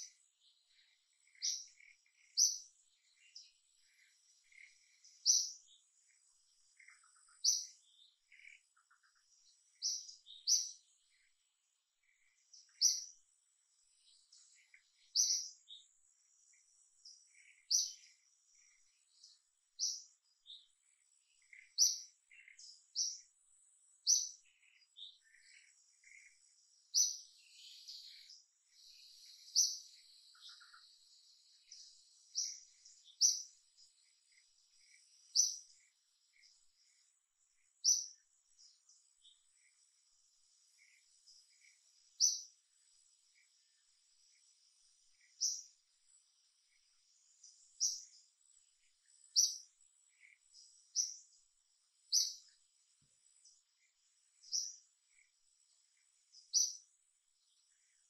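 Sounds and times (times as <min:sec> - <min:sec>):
faint bird calls: 0:00.0 - 0:23.4, 0:24.0 - 0:52.6.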